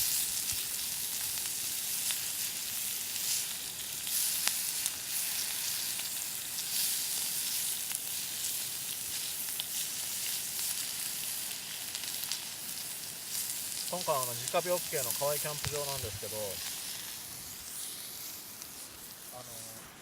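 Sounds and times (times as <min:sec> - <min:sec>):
meat sizzling on iron griddle: 0:00.0 - 0:20.0.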